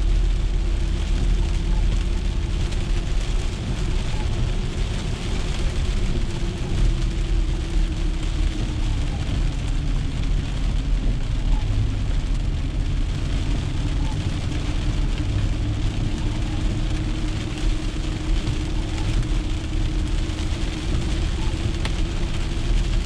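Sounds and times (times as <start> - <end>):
car road and engine rumble: 0.0 - 23.0
rain on windshield and roof: 0.0 - 23.0
tyres hissing on wet road: 0.0 - 23.0.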